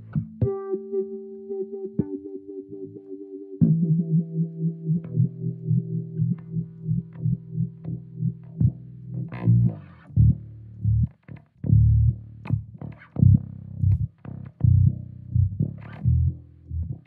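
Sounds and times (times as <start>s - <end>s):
electric bass riff with wah filter: 0.0s - 17.0s.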